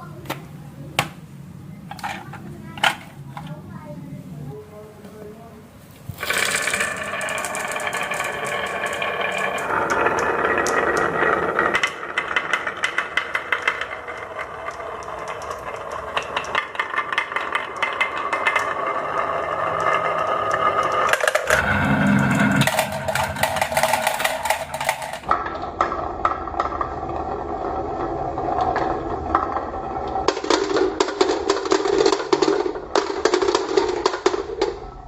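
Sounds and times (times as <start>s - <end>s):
marbles rolling rumble: 6.1s - 35.0s
marbles clattering down a run: 6.2s - 35.0s.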